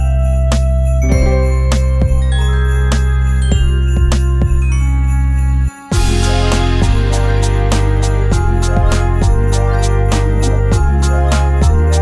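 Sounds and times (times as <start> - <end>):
upbeat hip-hop music: 1.0 - 4.7, 5.7 - 12.0.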